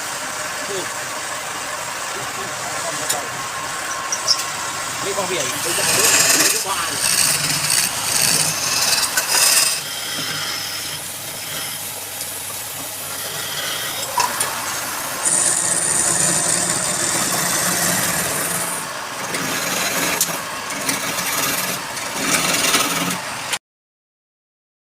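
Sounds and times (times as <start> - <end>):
wood lathe tool scraping wood: 2.2 - 23.6.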